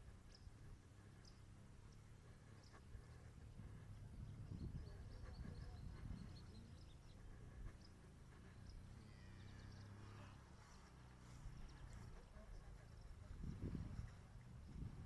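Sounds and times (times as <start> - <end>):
faint bird chirps: 0.2 - 13.4.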